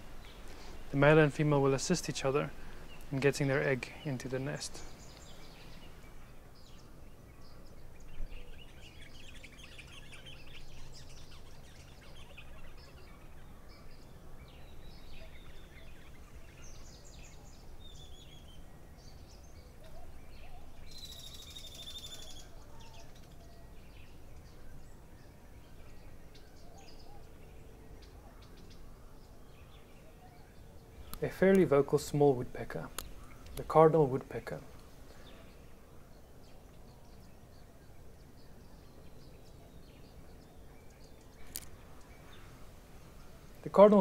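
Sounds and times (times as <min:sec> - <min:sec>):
wild birds chirping and calling: 0:00.0 - 0:44.0.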